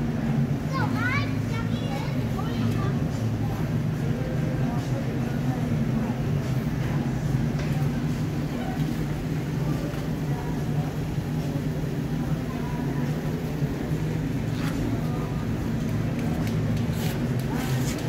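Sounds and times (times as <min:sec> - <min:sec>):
faint voices: 0:00.0 - 0:18.0
low mechanical hum: 0:00.0 - 0:18.0.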